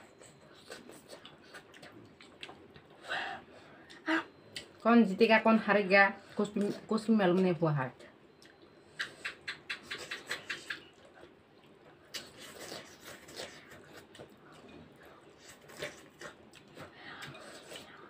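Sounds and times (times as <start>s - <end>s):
people chewing noodles: 0.0s - 4.8s, 8.3s - 18.0s.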